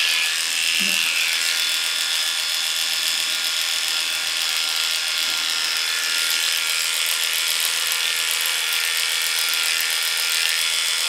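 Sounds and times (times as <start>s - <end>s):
electric clippers buzzing: 0.0s - 11.0s.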